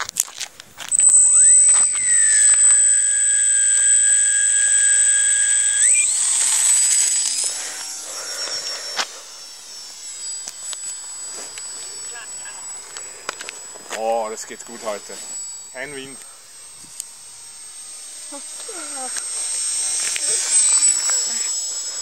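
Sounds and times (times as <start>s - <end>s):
model plane motor whining: 0.0s - 22.0s.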